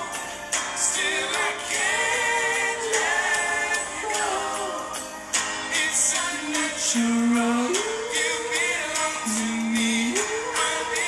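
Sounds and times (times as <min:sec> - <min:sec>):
person singing a song: 0:00.0 - 0:11.0.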